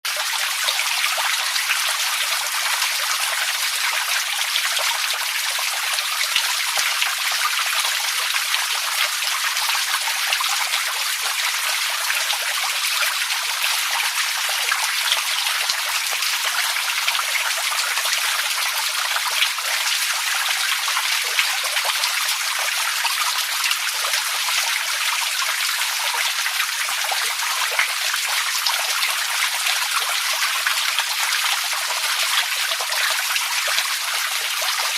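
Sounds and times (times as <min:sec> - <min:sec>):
running water: 0:00.0 - 0:34.9.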